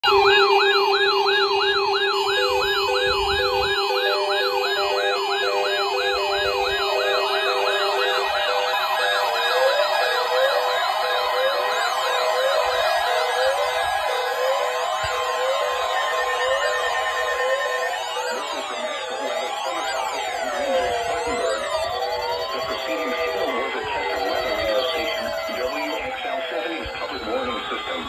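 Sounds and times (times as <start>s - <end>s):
electronic siren yelping: 0.0s - 28.0s
pulsing beep: 0.0s - 28.0s.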